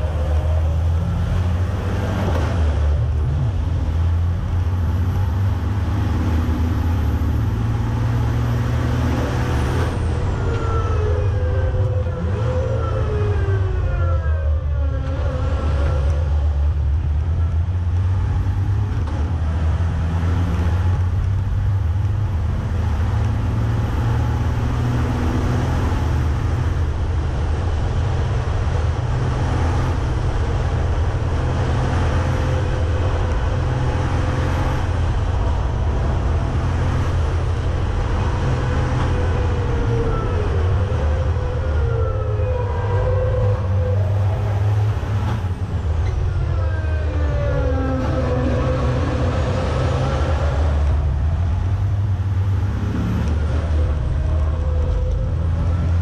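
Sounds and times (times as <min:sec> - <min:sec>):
diesel truck engine running hard: 0:00.0 - 0:56.0.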